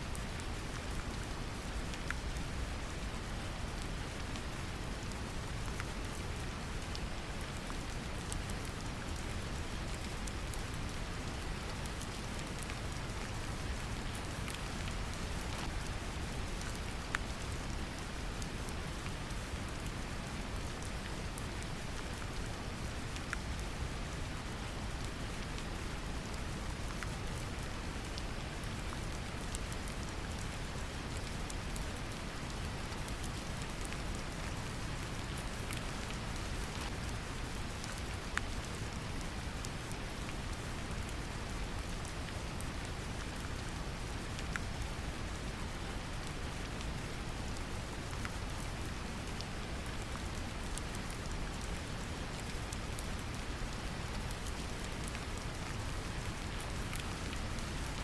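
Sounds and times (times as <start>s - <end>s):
brown noise hiss: 0.0s - 58.0s
gentle rain drops ticking: 0.1s - 58.0s.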